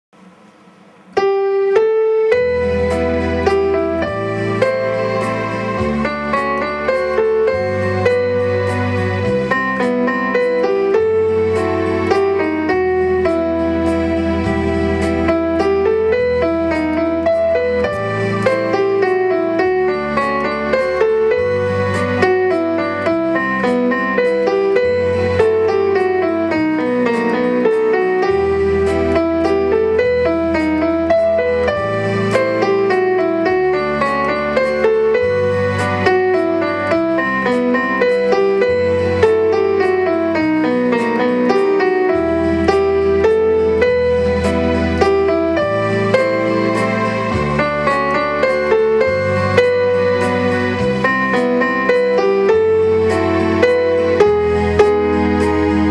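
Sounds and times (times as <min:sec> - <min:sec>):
piano melody and chords: 0:00.1 - 0:55.9.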